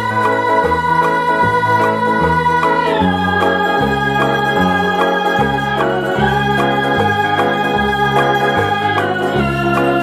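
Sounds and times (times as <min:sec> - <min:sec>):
electronic organ music: 0:00.0 - 0:10.0.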